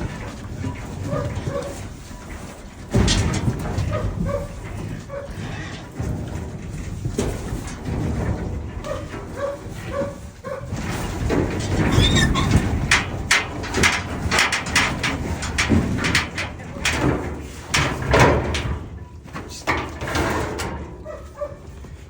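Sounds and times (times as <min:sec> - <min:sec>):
hooves knocking in metal trailer: 0:00.0 - 0:22.0.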